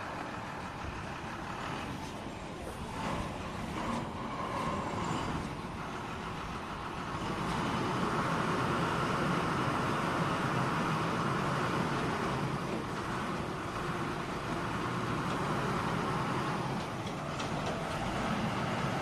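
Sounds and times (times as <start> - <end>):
crane diesel engine running: 0.0 - 19.0.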